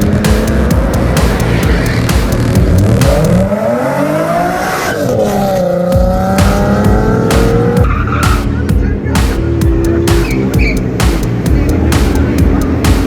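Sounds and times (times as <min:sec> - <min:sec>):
music with regular beat: 0:00.0 - 0:03.6, 0:05.7 - 0:13.0
car engine revving: 0:00.0 - 0:13.0.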